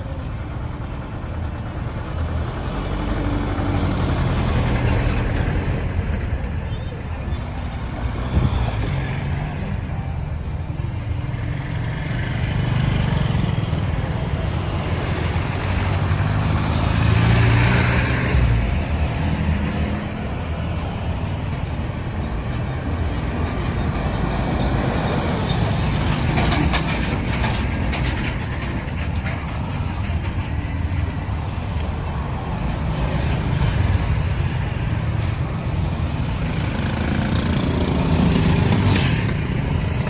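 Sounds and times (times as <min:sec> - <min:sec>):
passing vehicles: 0:00.0 - 0:40.0.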